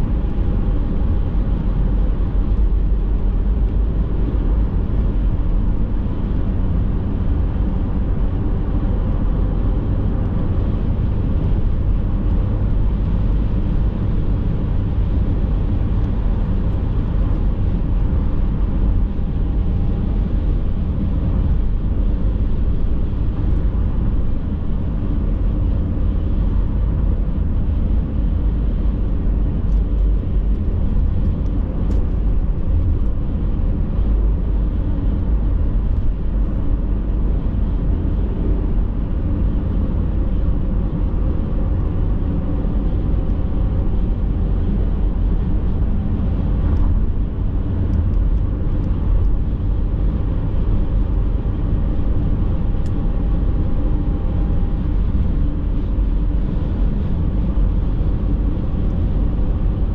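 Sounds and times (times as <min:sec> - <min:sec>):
car road noise in cabin: 0:00.0 - 0:59.9.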